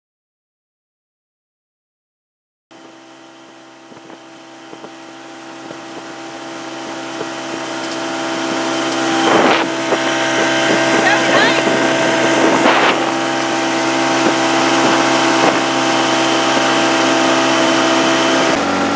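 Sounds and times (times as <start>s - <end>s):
boat motor humming: 2.7s - 18.9s.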